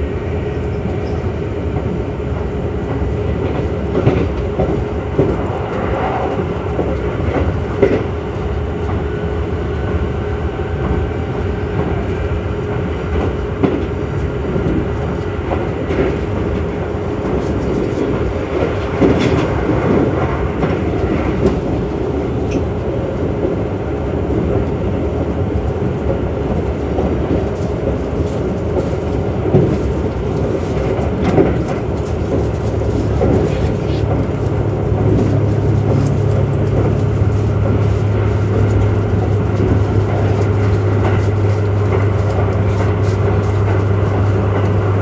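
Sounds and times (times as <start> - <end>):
continuous hum: 0.0 - 45.0
train wheels rumbling on rail: 0.0 - 45.0.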